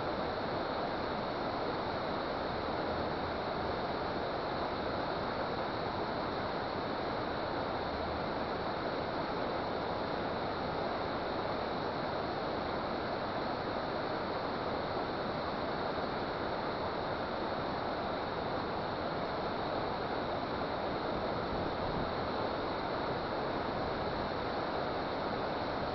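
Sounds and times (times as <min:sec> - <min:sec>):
water rushing through a dam: 0:00.1 - 0:25.9.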